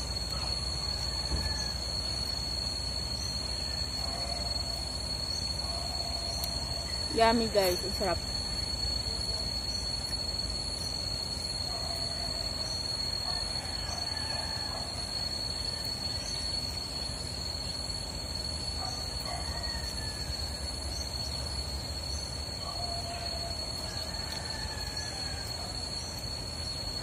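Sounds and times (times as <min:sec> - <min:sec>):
high-pitched whine: 0:00.0 - 0:27.0.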